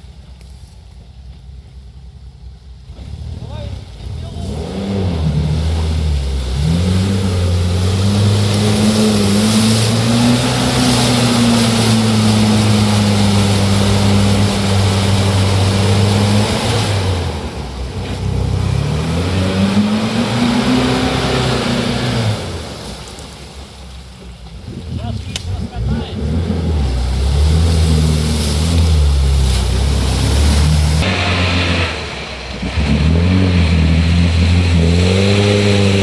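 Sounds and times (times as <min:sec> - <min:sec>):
off-road vehicle engine revving: 0:02.3 - 0:36.0.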